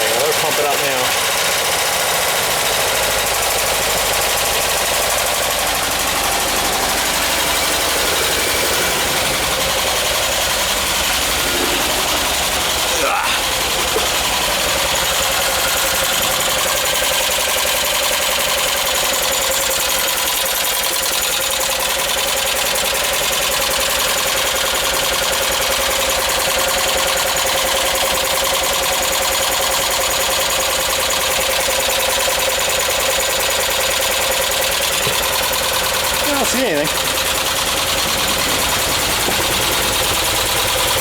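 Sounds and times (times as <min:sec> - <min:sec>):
engine idling with valve tapping: 0:00.0 - 0:41.0.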